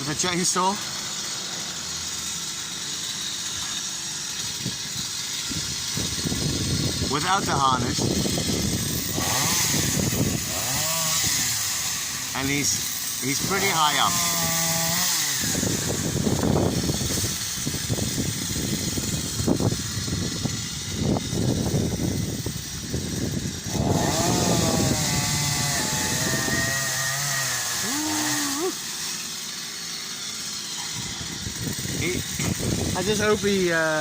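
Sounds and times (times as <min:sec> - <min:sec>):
chainsaw revving: 0:00.0 - 0:34.0.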